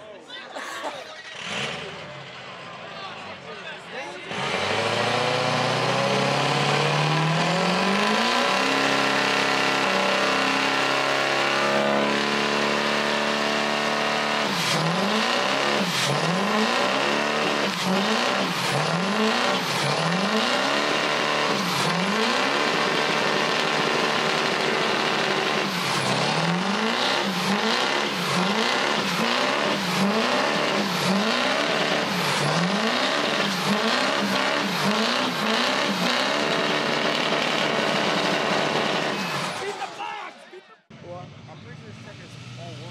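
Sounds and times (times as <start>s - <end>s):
diesel engine revving: 1.2s - 2.9s, 4.0s - 39.9s
tires spinning on pavement: 4.0s - 39.9s.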